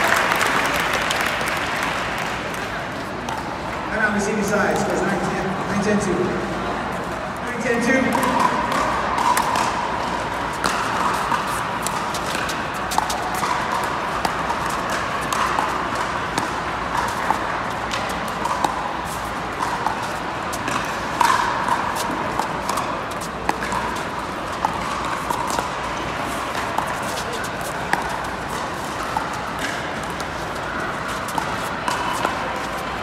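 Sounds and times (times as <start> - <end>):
indoor hall noise: 0.0 - 33.0.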